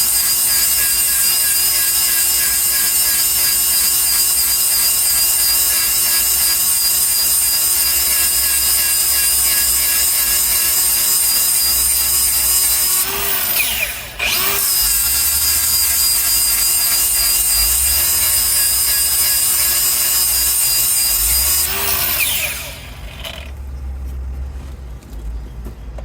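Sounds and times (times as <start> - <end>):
electric hand grinder whining: 0.0 - 23.5.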